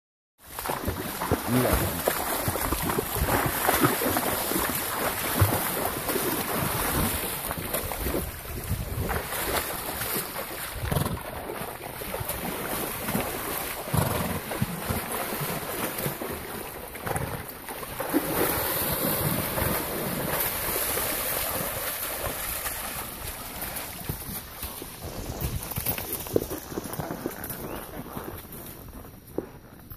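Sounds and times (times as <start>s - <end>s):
hooves splashing in water: 0.4s - 29.9s.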